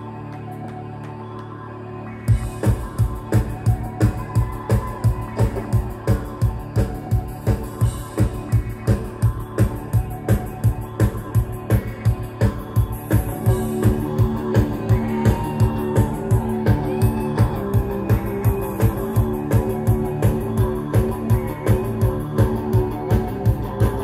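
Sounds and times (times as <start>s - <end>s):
fast kick drum beat: 2.3s - 24.0s
live rock band playing: 3.4s - 24.0s.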